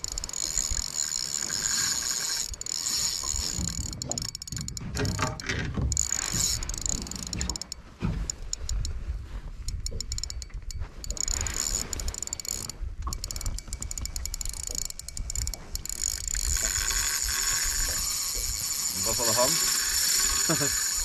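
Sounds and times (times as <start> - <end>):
fishing reel whirring: 0.0 - 9.0, 9.6 - 21.0
sharp clicks: 0.0 - 9.0, 9.6 - 18.8.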